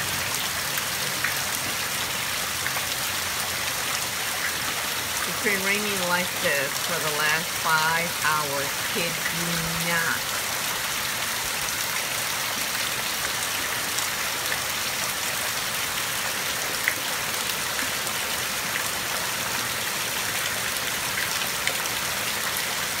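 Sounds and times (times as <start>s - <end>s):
heavy rain splashing: 0.0s - 23.0s.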